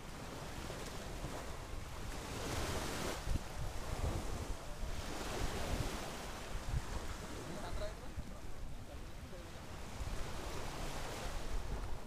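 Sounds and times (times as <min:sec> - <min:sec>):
waves washing on beach: 0:00.0 - 0:12.0
wind buffeting microphone: 0:00.0 - 0:12.0.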